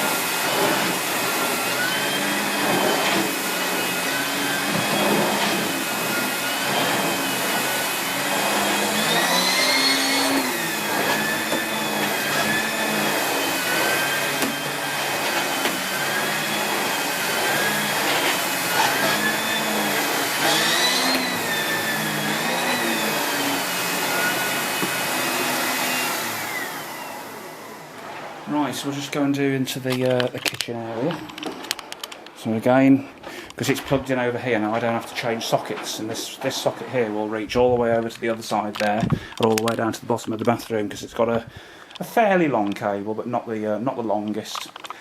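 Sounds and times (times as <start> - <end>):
vacuum cleaner running: 0.0 - 40.3.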